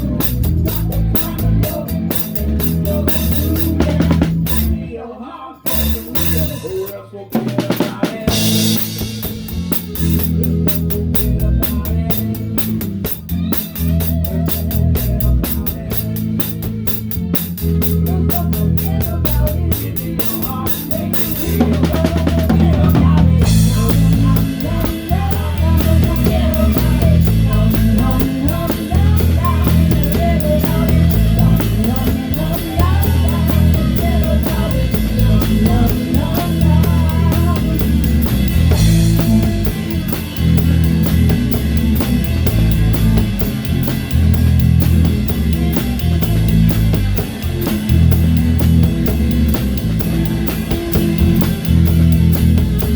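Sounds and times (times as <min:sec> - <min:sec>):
drum fill: 0:00.0 - 0:04.8, 0:05.7 - 0:52.9
live rock band playing: 0:00.0 - 0:04.8, 0:05.7 - 0:52.9.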